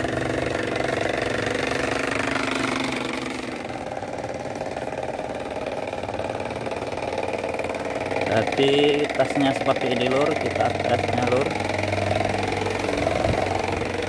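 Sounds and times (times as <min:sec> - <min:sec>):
small toy engine knocking: 0:00.0 - 0:14.0.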